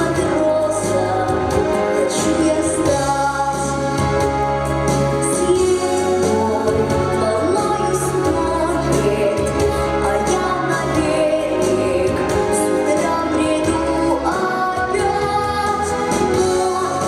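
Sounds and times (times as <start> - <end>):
musical accompaniment: 0.0 - 17.0.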